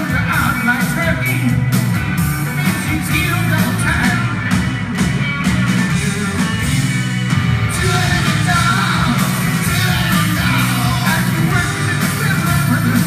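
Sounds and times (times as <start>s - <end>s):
live rock band playing: 0.0s - 13.0s
steady drum beat: 0.0s - 13.0s.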